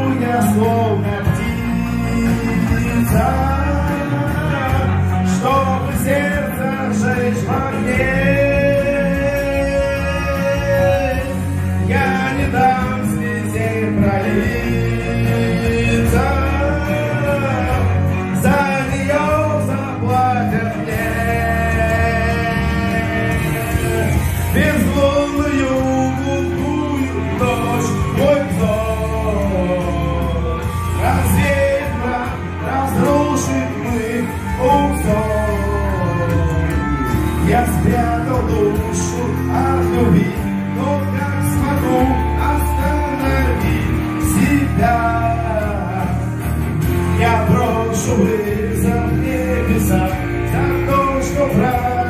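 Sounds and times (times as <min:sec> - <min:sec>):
backing track music: 0:00.0 - 0:52.0
man singing into microphone: 0:00.0 - 0:52.0.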